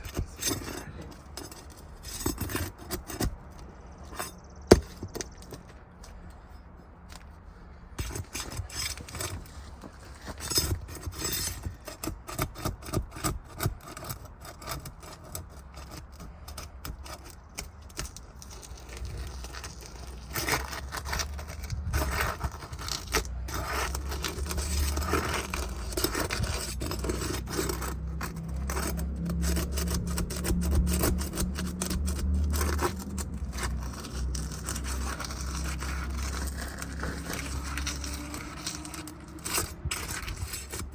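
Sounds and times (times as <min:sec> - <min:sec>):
tool scraping shingles: 0:00.0 - 0:40.9.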